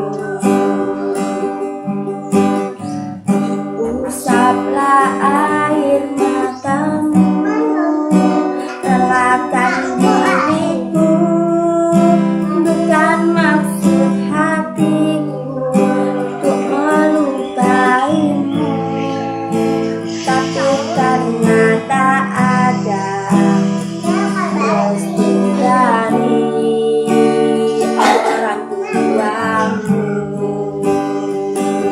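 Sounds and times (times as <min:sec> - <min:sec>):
acoustic guitar strumming: 0:00.0 - 0:31.9
person singing: 0:00.0 - 0:31.9.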